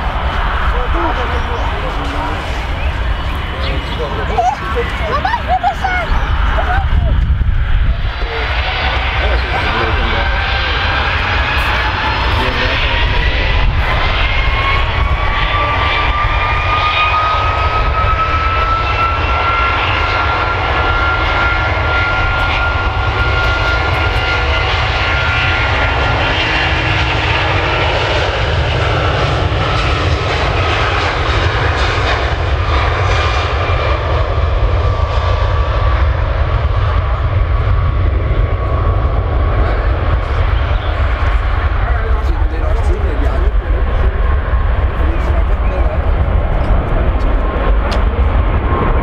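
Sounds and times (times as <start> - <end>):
jet engines at takeoff power: 0.0 - 49.0.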